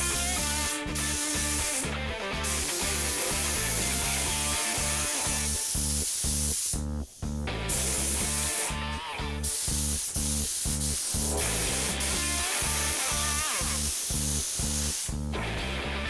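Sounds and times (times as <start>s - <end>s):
air spray gun hissing: 0.0s - 6.8s, 7.7s - 15.3s
background music with beat: 0.0s - 16.0s.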